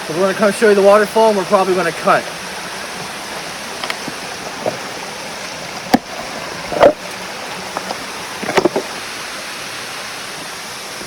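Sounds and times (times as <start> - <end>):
waterfall rushing: 1.3 - 11.0.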